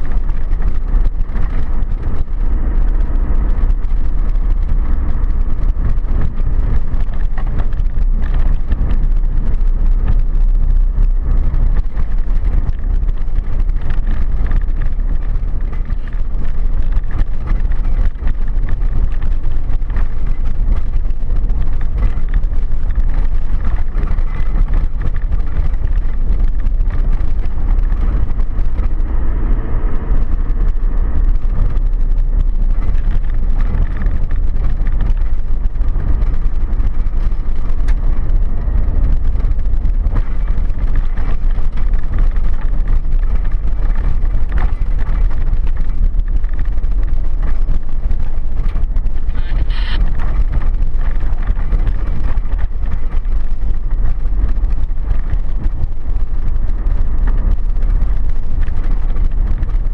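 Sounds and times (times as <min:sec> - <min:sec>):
car driving on gravel: 0:00.0 - 0:59.9.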